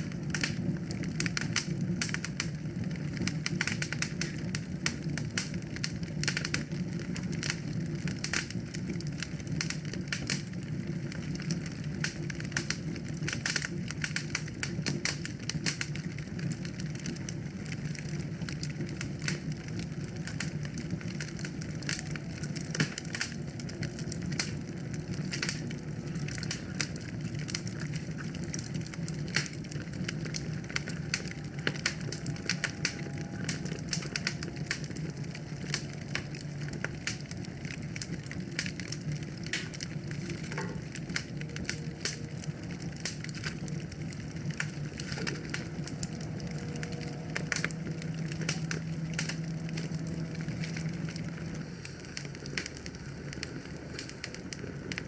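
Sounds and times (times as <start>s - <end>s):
low rush of flame: 0.0s - 55.0s
wood fire crackling: 0.0s - 55.0s.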